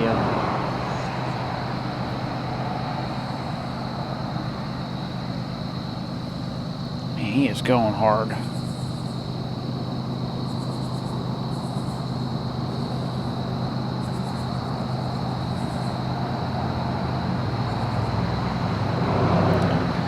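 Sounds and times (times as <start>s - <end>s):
diesel locomotives droning: 0.0s - 20.0s.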